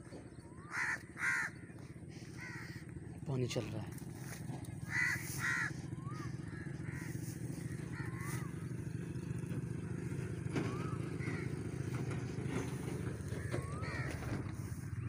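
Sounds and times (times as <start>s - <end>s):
low engine running: 0.0s - 15.0s
crows cawing: 0.5s - 3.2s, 4.0s - 15.0s.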